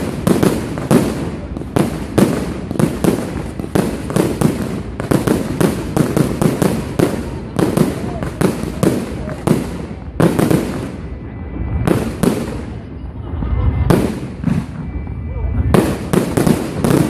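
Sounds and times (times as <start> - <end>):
fireworks bursts and cracks: 0.0 - 17.0.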